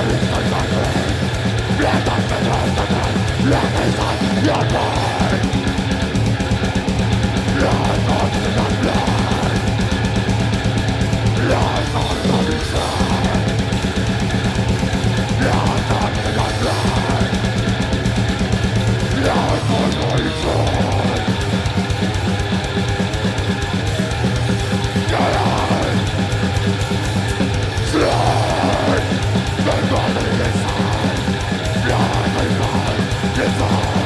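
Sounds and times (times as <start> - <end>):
distorted electric guitars: 0.0 - 34.0
fast drumming on drum kit: 0.0 - 34.0.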